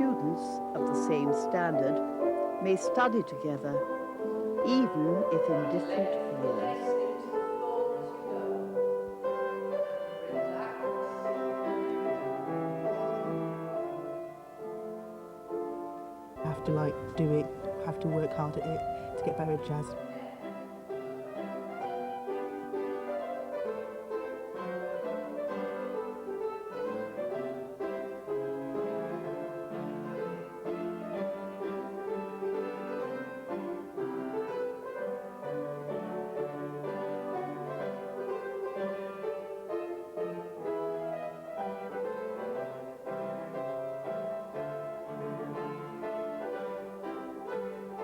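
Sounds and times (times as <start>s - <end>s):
slow piano chords: 0.0s - 48.0s.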